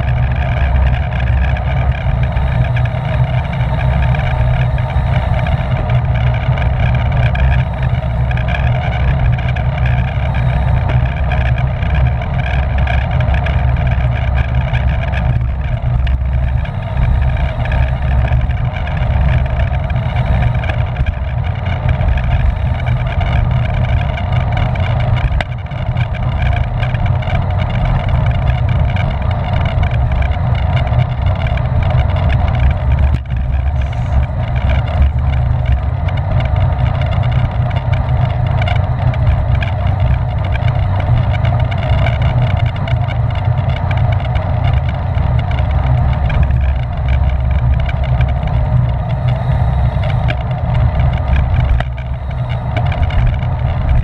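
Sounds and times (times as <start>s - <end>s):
bicycle tyres and drivetrain hum: 0.0s - 54.0s
wind buffeting microphone: 0.0s - 54.0s.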